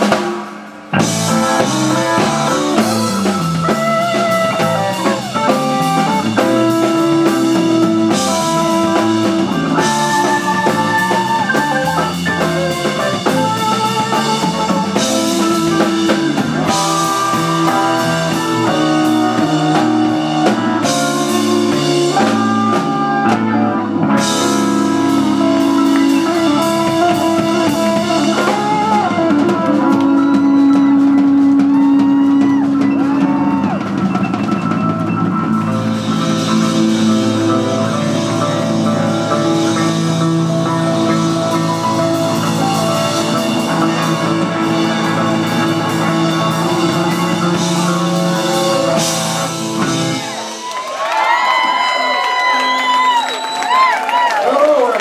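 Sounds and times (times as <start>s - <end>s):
electric guitar lead: 0.0s - 55.0s
live rock band playing: 0.0s - 55.0s.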